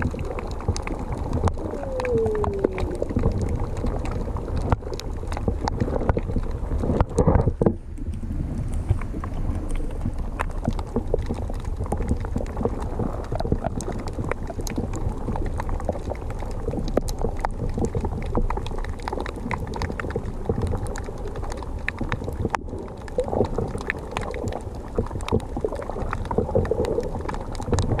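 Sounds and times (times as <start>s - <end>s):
muffled underwater rumble: 0.0s - 28.0s
underwater clicks and crackles: 0.0s - 28.0s.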